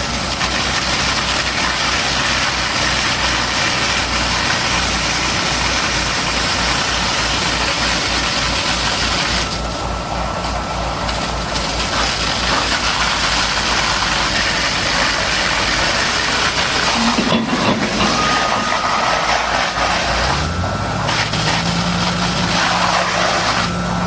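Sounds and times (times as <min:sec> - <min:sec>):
hiss of water spray: 0:00.0 - 0:09.5, 0:10.4 - 0:23.8
heavy engine throbbing: 0:00.0 - 0:24.0.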